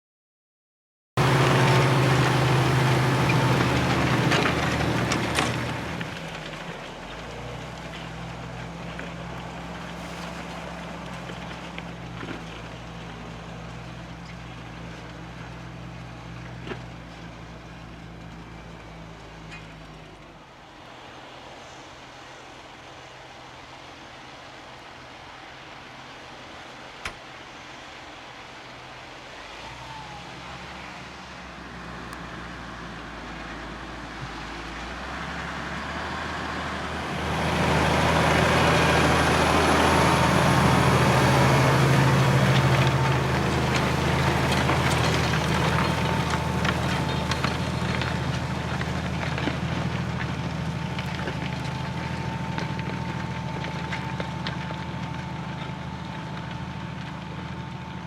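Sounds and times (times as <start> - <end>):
tractor engine under load: 1.2 - 58.0.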